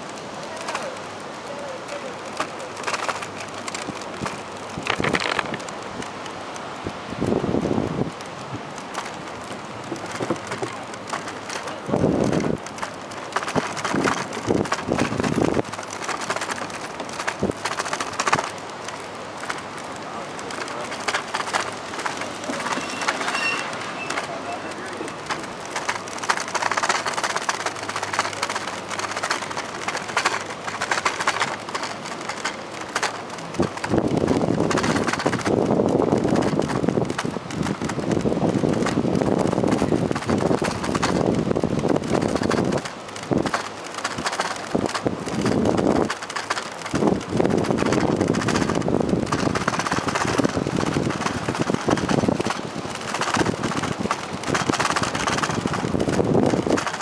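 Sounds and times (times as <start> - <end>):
bicycle wheels on wooden boards: 0.0 - 57.0
wind buffeting microphone: 0.0 - 57.0.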